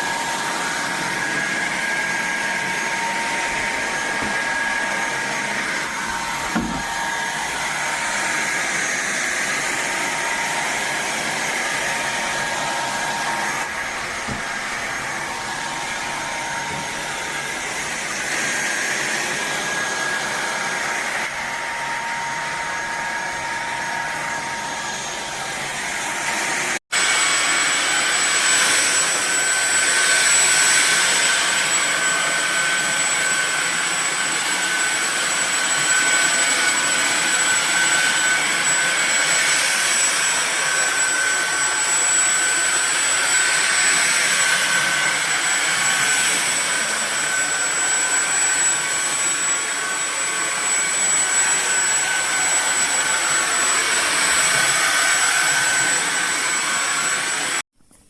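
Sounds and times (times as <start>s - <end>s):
stick vacuum motor whining: 0.0s - 57.6s.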